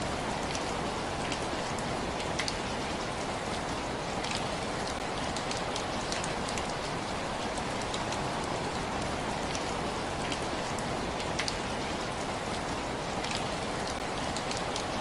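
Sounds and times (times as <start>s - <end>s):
raindrops ticking on hard surface: 0.0s - 15.0s
steady rainfall hiss: 0.0s - 15.0s.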